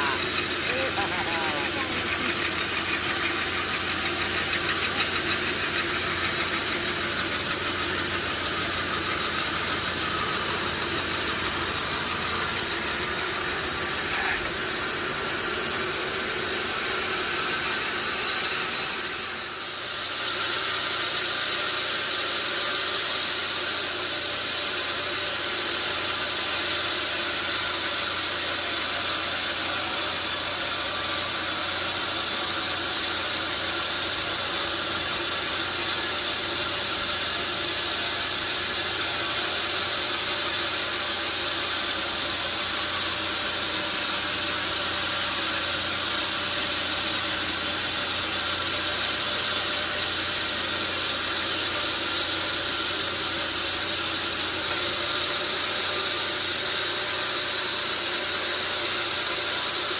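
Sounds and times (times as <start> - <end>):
sawmill engine drone: 0.0 - 59.9.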